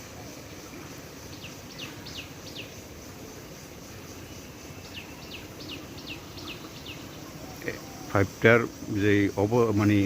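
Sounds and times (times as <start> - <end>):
bird chirping: 1.2 - 10.0.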